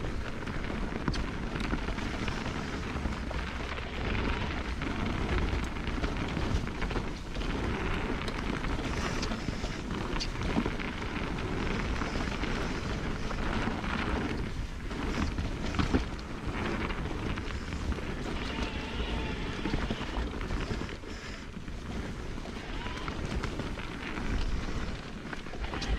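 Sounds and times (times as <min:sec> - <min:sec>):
bike knocking and rattling: 0:00.0 - 0:25.9
tyre and wind rush: 0:00.0 - 0:25.9.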